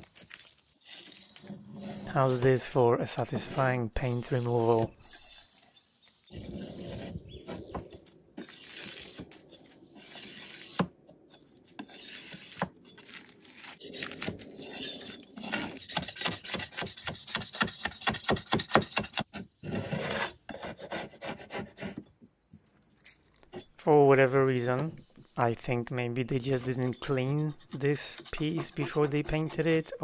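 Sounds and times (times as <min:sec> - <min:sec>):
scraper blade scraping paint off wood: 0:00.8 - 0:22.0, 0:26.2 - 0:30.0.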